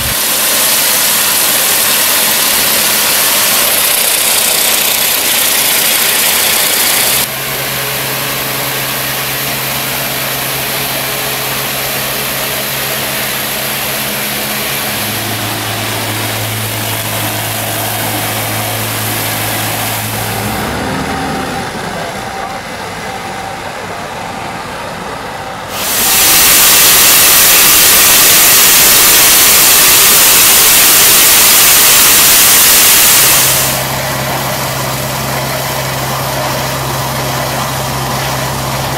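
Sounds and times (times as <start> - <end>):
high-pressure water spray hiss: 0.0 - 7.3, 8.4 - 20.6, 25.7 - 38.9
engine hum: 0.0 - 25.8, 33.2 - 38.9.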